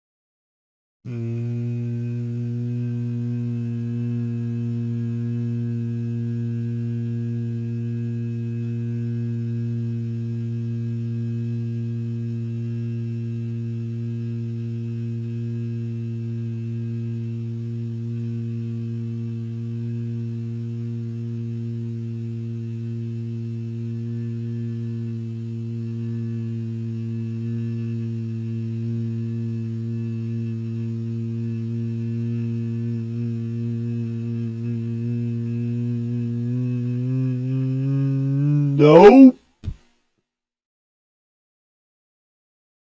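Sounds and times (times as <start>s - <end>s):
low nasal hum: 1.1s - 39.8s.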